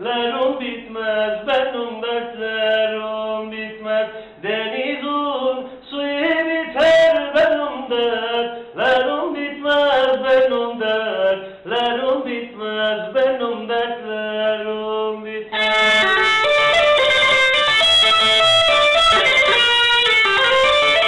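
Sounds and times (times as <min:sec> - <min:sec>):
man singing folk song: 0:00.0 - 0:19.6.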